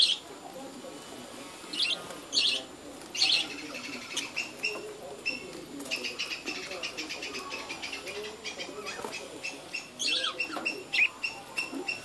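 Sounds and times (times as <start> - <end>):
budgerigars chirping: 1.7 - 12.0.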